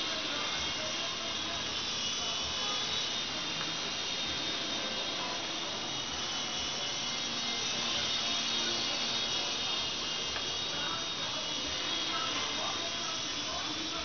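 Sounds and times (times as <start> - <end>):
toy helicopter rotor whine: 0.0 - 14.0.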